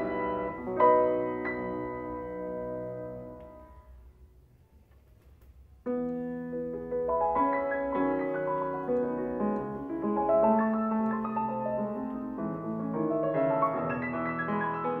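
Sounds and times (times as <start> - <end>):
solo classical piano: 0.0 - 15.0.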